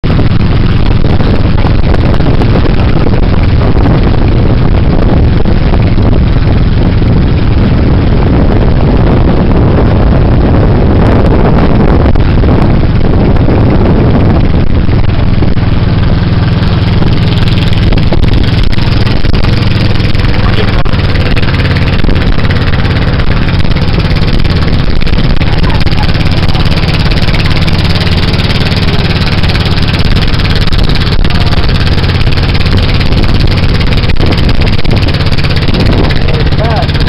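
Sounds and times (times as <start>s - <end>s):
boat engine running: 0.0s - 37.0s.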